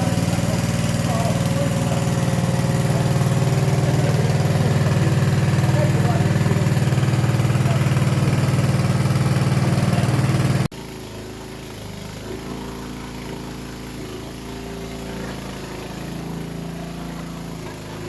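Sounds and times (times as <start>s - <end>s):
quieter engine hum: 0.0s - 18.0s
small engine running: 0.0s - 18.0s.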